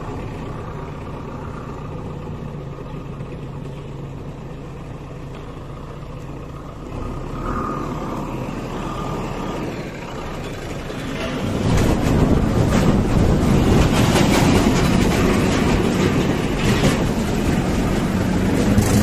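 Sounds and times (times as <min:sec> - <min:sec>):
diesel engine of loader driving by: 0:00.0 - 0:19.0.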